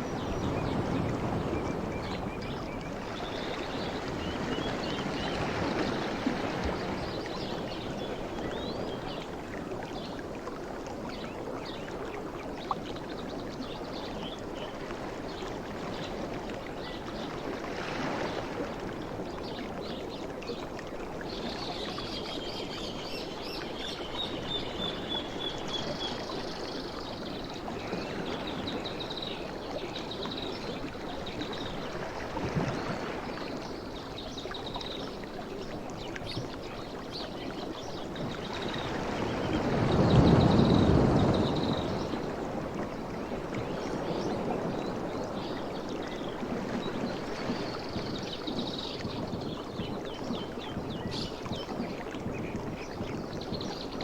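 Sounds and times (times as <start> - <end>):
sea waves breaking on shore: 0.0 - 11.3, 14.4 - 21.1, 24.4 - 54.0.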